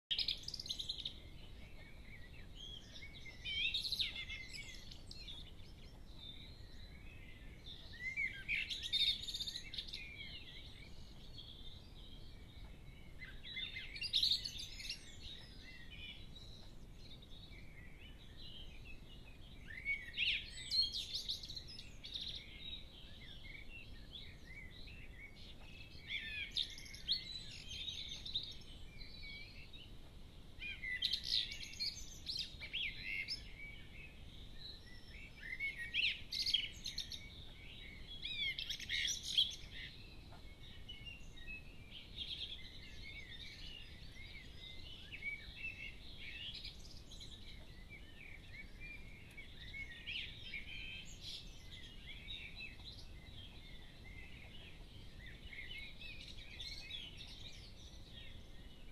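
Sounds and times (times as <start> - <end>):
faint background hiss: 0.1 - 58.9.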